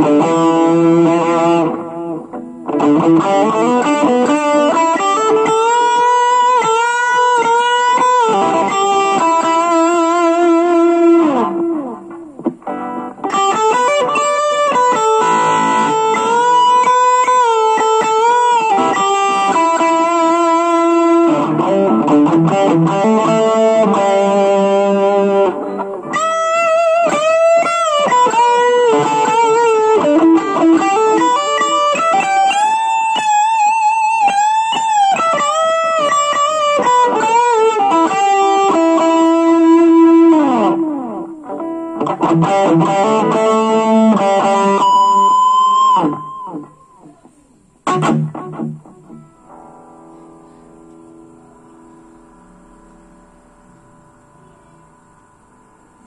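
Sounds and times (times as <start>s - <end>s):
electric guitar lead line: 0.0s - 56.0s.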